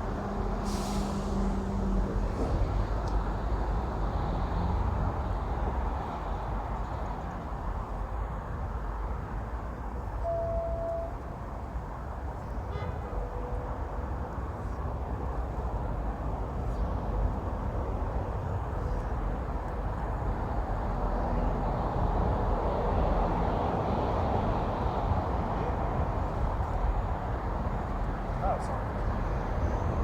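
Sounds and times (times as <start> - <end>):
traffic rumble on bridge overhead: 0.0 - 30.0.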